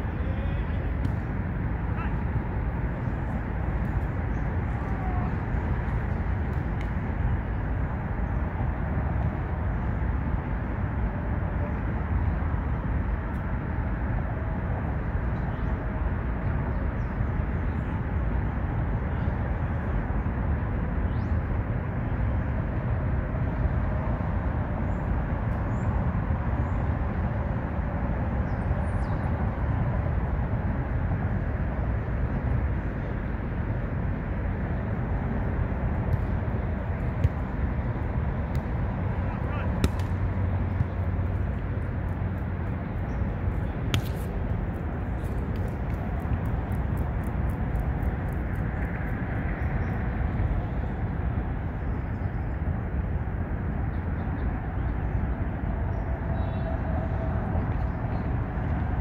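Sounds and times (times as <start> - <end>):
traffic rumble overhead: 0.0 - 59.0.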